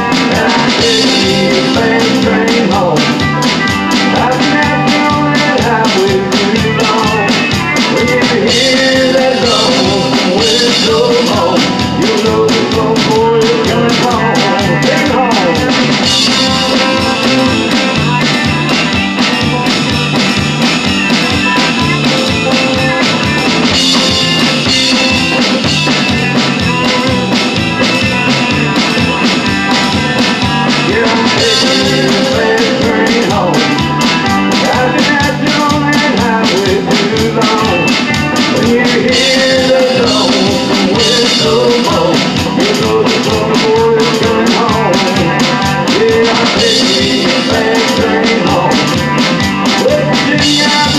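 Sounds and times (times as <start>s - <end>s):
pitch-bending lead line: 0.0s - 50.9s
rock and roll band playing: 0.0s - 50.9s.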